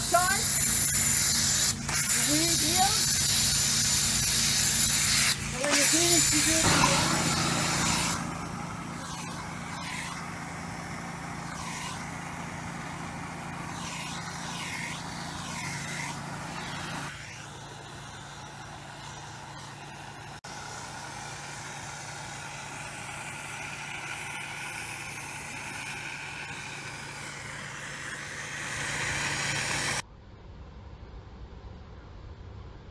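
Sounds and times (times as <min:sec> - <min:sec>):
machine humming: 0:00.0 - 0:30.0
steam hissing: 0:00.0 - 0:30.0.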